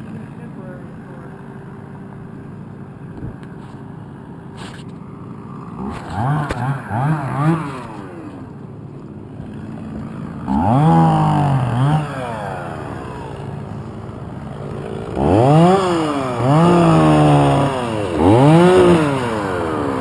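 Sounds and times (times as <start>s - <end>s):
chainsaw idling and revving: 0.0s - 20.0s.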